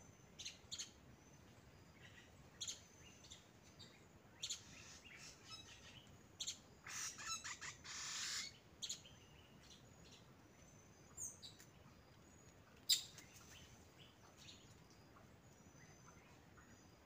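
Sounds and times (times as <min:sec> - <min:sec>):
faint background noise: 0:00.0 - 0:17.0.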